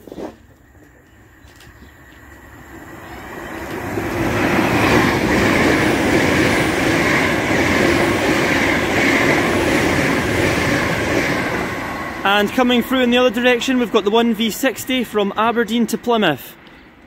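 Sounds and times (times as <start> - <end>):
train rushing past: 2.0 - 17.0.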